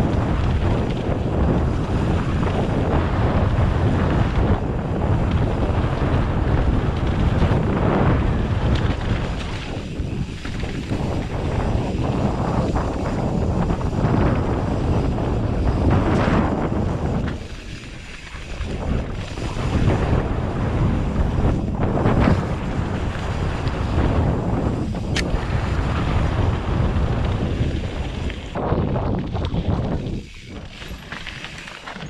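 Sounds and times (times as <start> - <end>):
bike tyres on dirt and gravel: 0.0 - 32.0
wind buffeting microphone: 0.0 - 32.0.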